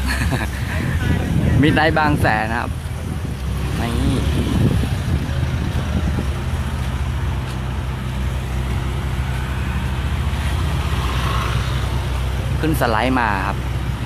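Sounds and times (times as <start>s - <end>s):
traffic noise: 0.0s - 14.0s
vehicle engines rumbling: 0.0s - 14.0s.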